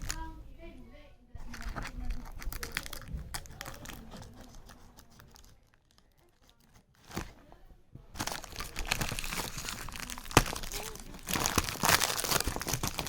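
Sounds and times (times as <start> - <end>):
packaging crinkling: 0.0 - 0.3, 1.4 - 7.3, 8.2 - 13.0.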